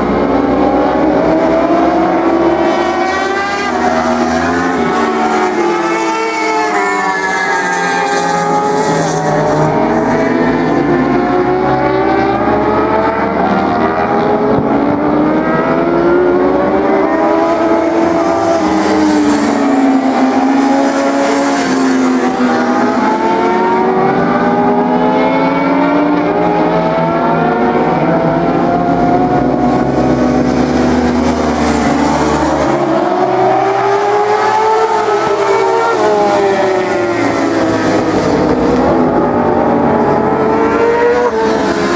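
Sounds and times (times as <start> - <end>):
racing motorcycles at high revs: 0.0 - 41.9.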